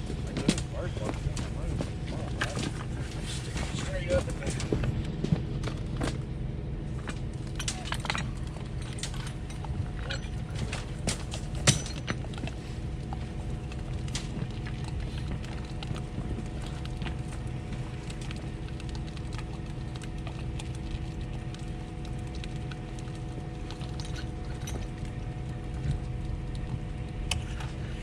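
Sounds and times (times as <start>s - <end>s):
concrete pump truck running: 0.0s - 28.0s.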